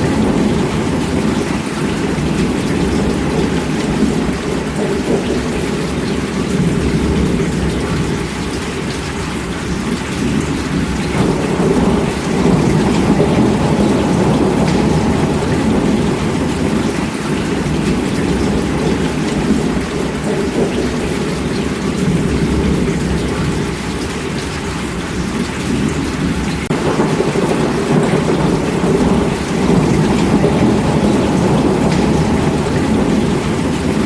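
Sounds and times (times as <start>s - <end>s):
heavy rain falling: 0.0s - 34.0s
low rumble of thunder: 0.0s - 34.0s.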